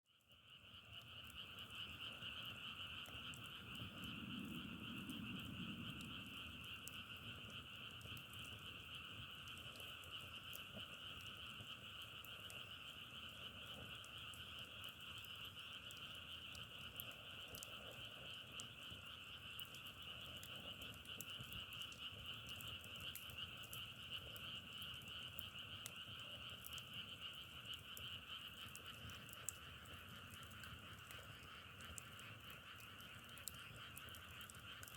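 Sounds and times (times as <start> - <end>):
faint ticks: 0.2 - 34.9
chorus of frogs calling: 0.5 - 34.9.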